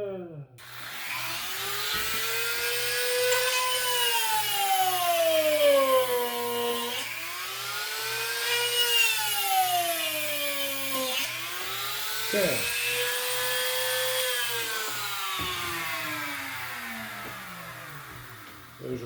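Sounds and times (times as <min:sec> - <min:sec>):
electric drill boring wood: 0:00.6 - 0:19.0.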